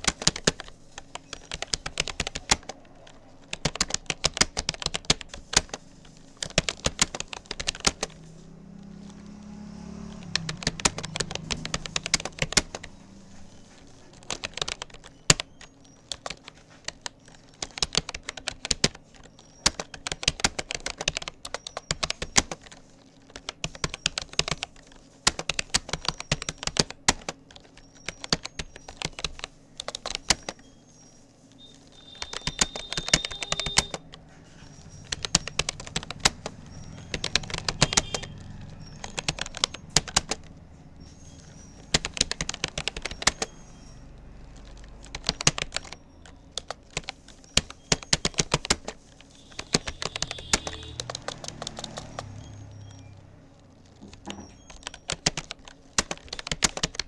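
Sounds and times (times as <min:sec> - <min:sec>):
keyboard typing clicks: 0:00.0 - 0:57.0.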